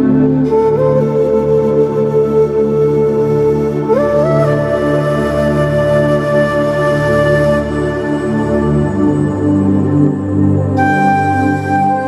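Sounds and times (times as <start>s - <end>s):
slow ambient music: 0.0s - 12.0s.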